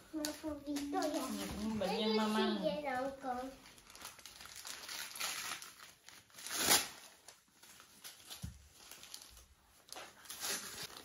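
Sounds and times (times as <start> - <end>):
wrapping paper crinkling and tearing: 0.2 - 2.5, 3.2 - 11.0.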